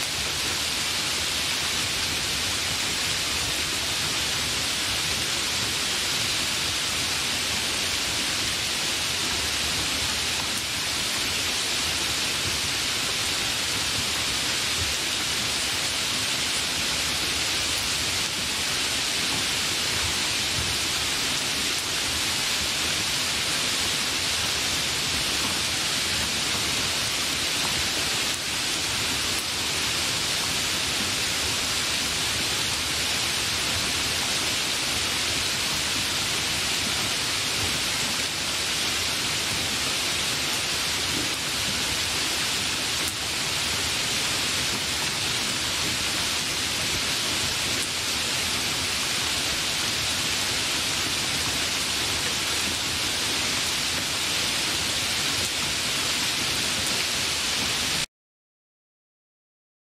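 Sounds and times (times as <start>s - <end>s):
heavy rain falling: 0.0s - 58.1s.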